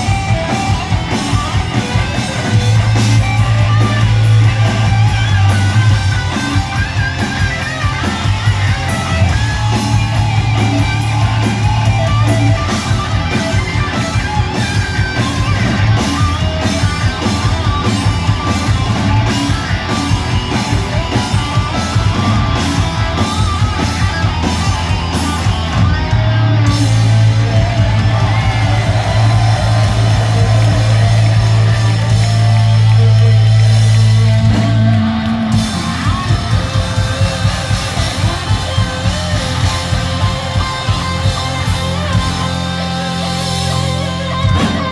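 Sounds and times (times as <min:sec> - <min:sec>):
electric guitar: 0:00.0 - 0:44.9
fast drumming: 0:00.0 - 0:44.9.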